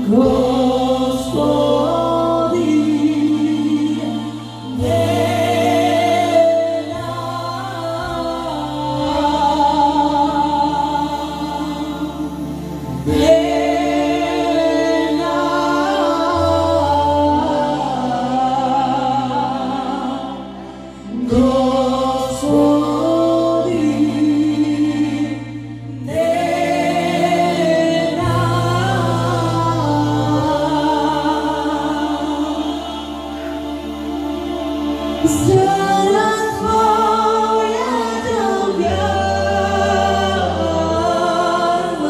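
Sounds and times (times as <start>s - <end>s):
keyboard chords and bass: 0.0s - 42.0s
woman singing into a microphone: 0.0s - 42.0s.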